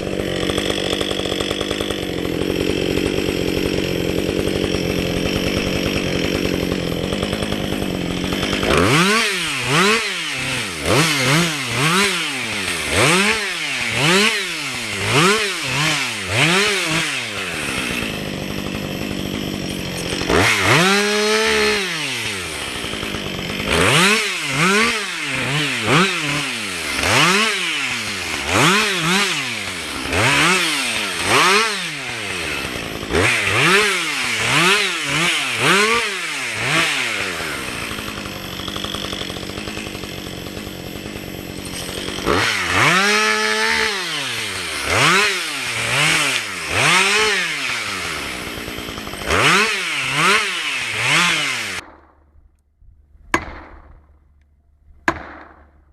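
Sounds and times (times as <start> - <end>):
chainsaw revving: 0.0 - 52.0.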